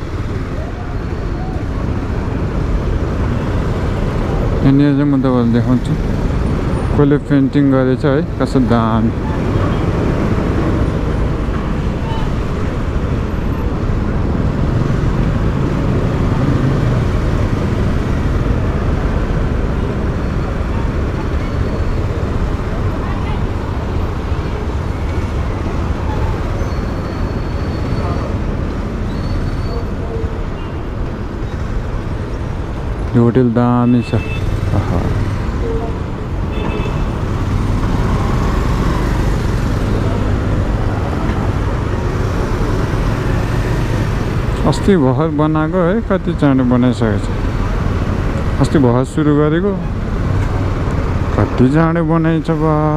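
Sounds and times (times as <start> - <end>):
road and traffic noise: 0.0 - 52.9.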